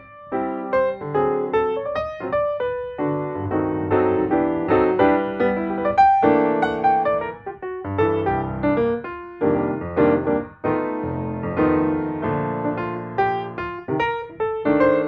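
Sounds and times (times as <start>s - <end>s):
piano playing repeated chords: 0.0s - 15.0s.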